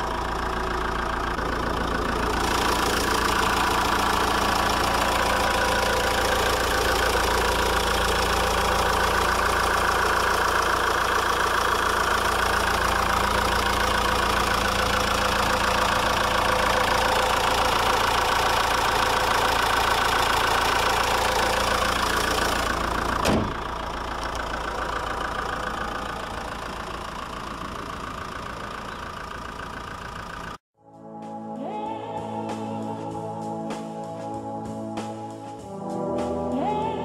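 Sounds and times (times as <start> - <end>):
diesel engine idling: 0.0 - 30.6.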